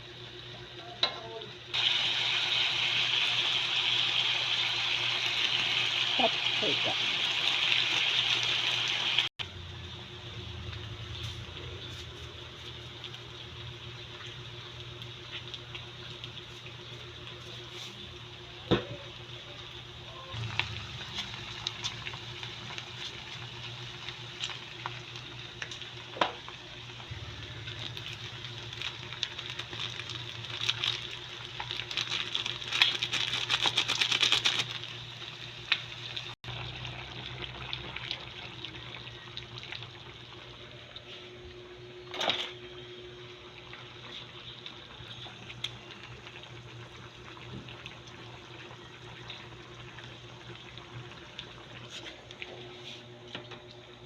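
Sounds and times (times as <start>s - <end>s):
stew bubbling and sizzling: 0.0s - 54.0s.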